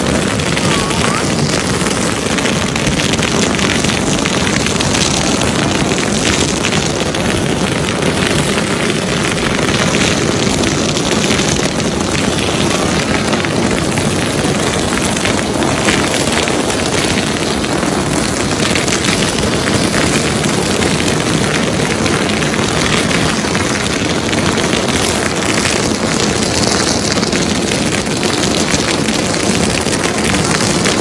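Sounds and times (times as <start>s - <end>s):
firecrackers crackling: 0.0s - 31.0s.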